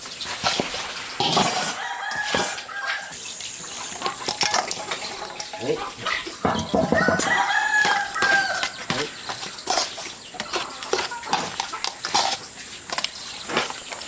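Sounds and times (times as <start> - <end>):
chickens clucking: 0.4 - 14.0.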